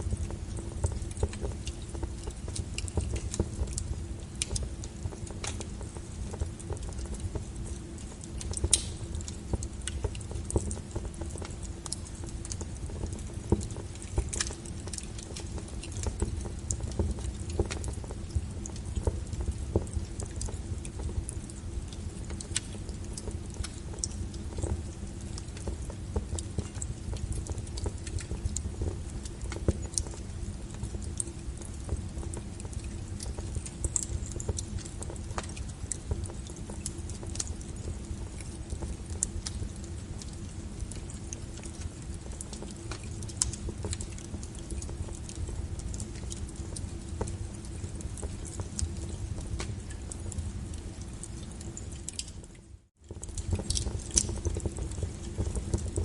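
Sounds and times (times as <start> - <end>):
flames rumbling: 0.0 - 56.0
wood fire crackling: 0.0 - 56.0.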